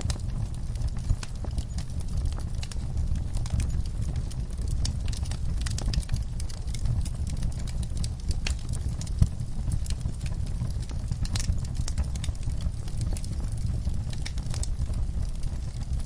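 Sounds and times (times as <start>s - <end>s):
fire crackling and popping: 0.0s - 16.0s
low fire rumble: 0.0s - 16.0s.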